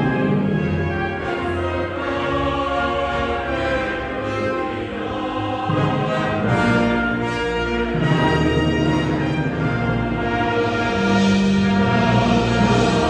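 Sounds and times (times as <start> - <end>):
choir singing: 0.0 - 13.0
instrumental accompaniment: 0.0 - 13.0.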